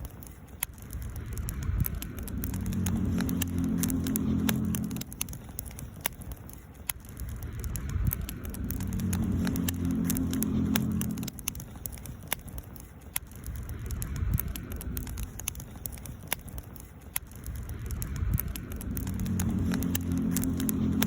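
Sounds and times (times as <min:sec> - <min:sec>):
campfire crackling and popping: 0:00.0 - 0:21.0
steady low hum: 0:00.0 - 0:21.0.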